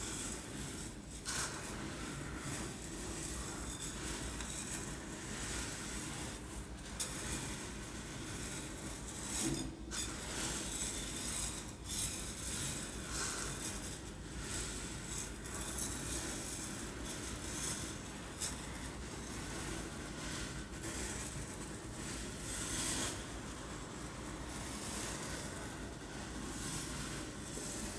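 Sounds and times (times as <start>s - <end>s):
rice shaken in a container: 0.0s - 27.9s.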